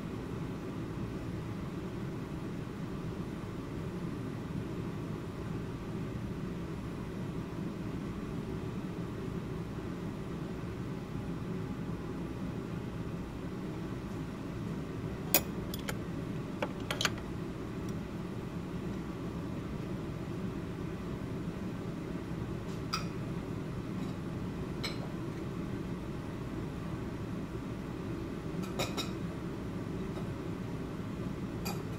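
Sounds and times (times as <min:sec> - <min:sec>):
low room hum: 0:00.0 - 0:31.9.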